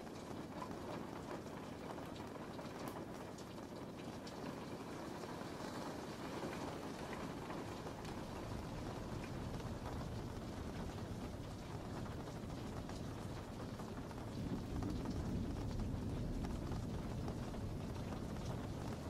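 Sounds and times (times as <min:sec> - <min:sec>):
raindrops ticking: 0:00.0 - 0:19.0
steady rain: 0:00.0 - 0:19.0.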